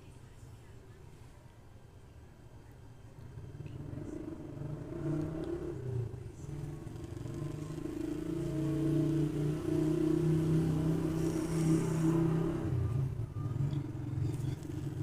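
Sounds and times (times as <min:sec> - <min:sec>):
small fan motor humming: 0:02.8 - 0:15.0.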